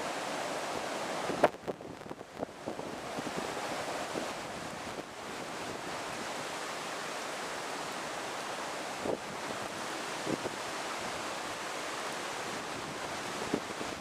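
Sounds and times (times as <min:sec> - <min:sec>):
driving rain: 0:00.0 - 0:14.0.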